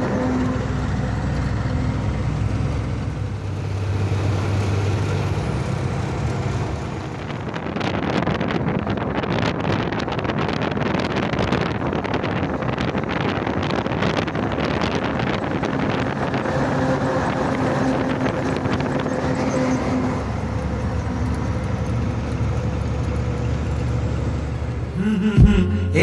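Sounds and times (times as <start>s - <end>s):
road and wind noise: 0.0s - 25.0s
truck engine running: 0.0s - 26.0s.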